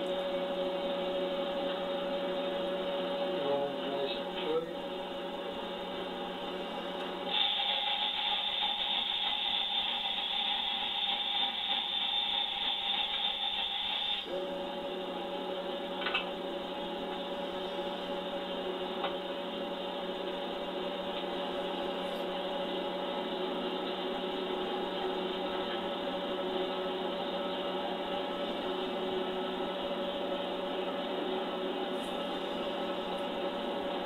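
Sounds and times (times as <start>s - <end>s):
metal lathe humming: 0.0s - 34.0s.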